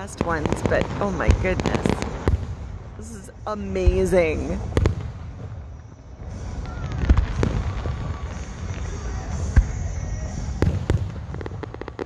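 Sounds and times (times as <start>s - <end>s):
fireworks booming: 0.0s - 12.0s
low rumble: 0.0s - 12.0s.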